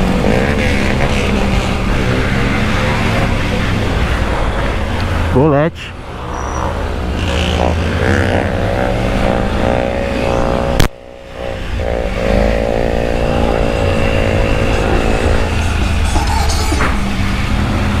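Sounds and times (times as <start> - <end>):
motorcycle engine accelerating: 0.0 - 5.4, 6.0 - 18.0
motorcycles revving: 0.0 - 18.0.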